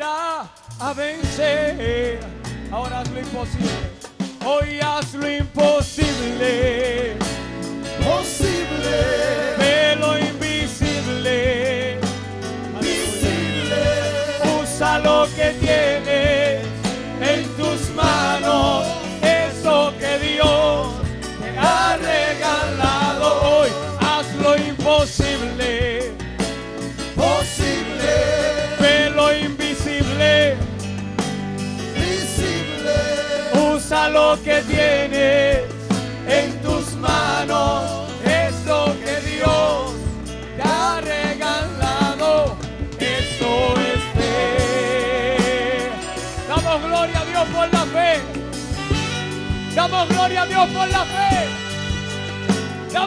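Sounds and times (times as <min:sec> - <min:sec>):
man singing with vibrato: 0:00.0 - 0:30.8, 0:31.8 - 0:48.4, 0:49.7 - 0:51.8
band accompaniment: 0:00.0 - 0:53.0.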